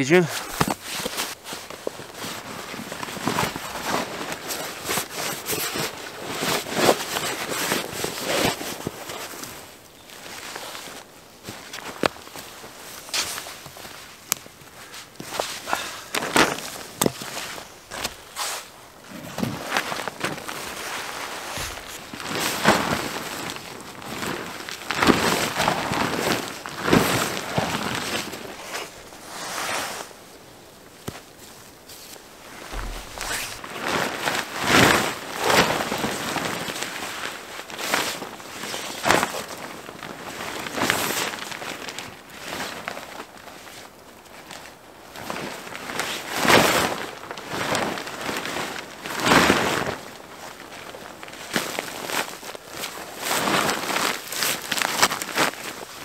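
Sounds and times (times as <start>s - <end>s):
tarp fabric rustling and crumpling: 0.3s - 56.0s.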